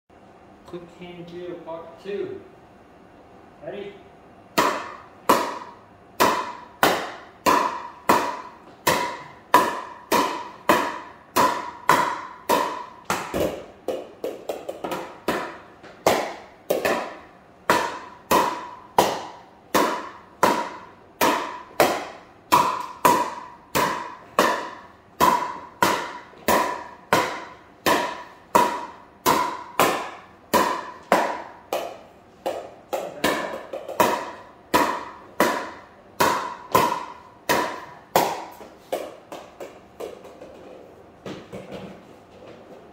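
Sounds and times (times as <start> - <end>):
paddle hitting plastic ball: 4.6 - 42.0.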